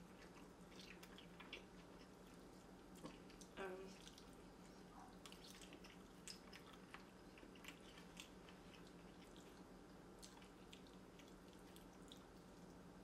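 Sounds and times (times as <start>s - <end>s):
chewing noodles: 0.0s - 13.0s
low steady hum: 0.0s - 13.0s.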